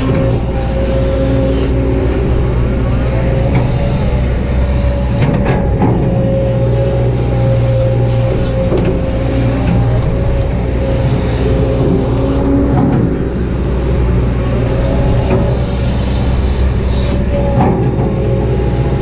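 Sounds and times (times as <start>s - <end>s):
excavator diesel engine running: 0.0s - 19.0s
hydraulic whine: 0.0s - 19.0s.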